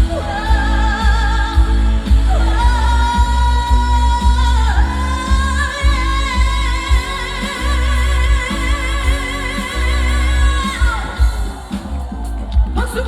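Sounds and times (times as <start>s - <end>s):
backing track with heavy bass beat: 0.0s - 13.0s
woman singing with vibrato: 0.0s - 13.0s.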